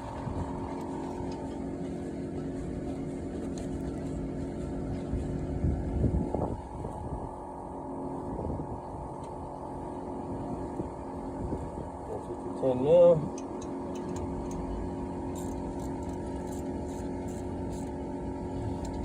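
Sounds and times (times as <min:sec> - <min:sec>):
mechanical hum and low rumble: 0:00.0 - 0:19.0.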